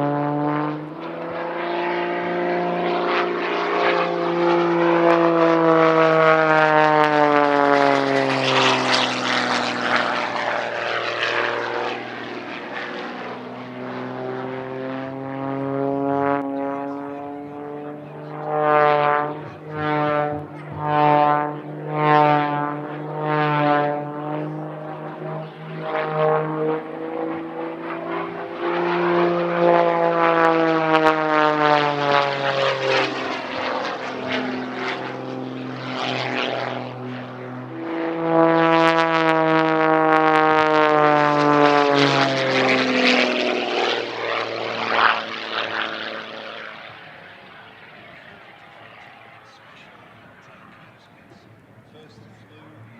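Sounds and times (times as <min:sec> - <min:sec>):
propeller aircraft flying past: 0:00.0 - 0:52.9.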